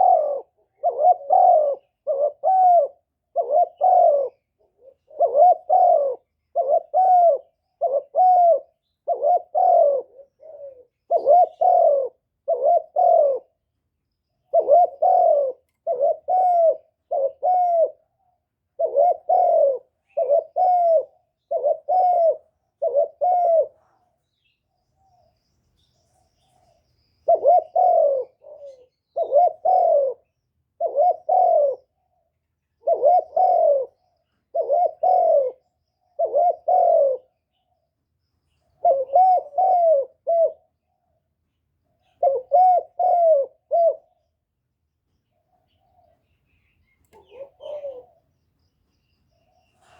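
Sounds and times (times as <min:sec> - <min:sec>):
dove cooing: 0:00.0 - 0:13.7, 0:14.4 - 0:24.2, 0:26.3 - 0:37.9, 0:38.6 - 0:41.3, 0:41.9 - 0:44.4, 0:45.3 - 0:48.4, 0:49.3 - 0:49.9.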